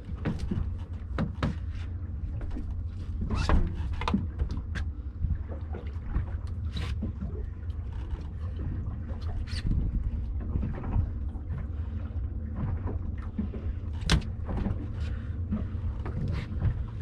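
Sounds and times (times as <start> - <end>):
boat engine low rumble: 0.0 - 17.0.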